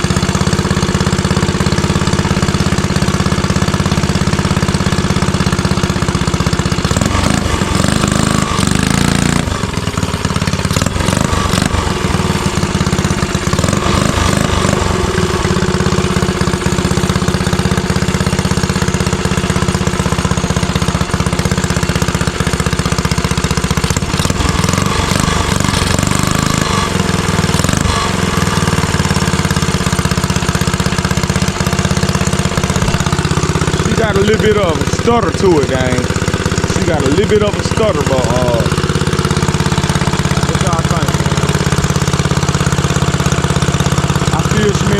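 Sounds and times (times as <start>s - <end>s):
small engine idling with stutter: 0.0s - 44.9s.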